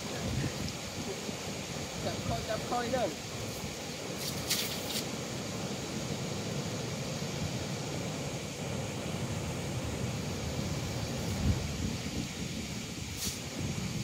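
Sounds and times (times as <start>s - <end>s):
wind rushing on microphone: 0.0s - 14.0s.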